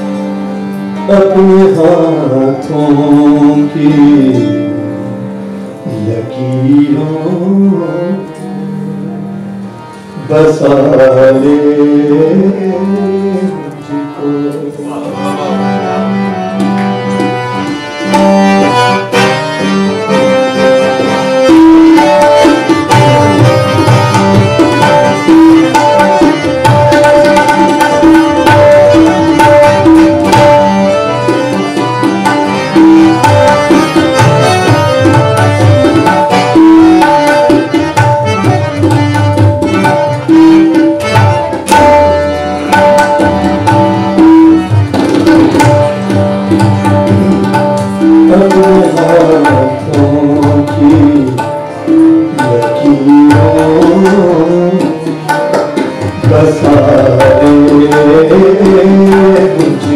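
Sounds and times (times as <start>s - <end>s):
harmonium held notes: 0.0s - 59.9s
tabla rhythm: 0.0s - 59.9s.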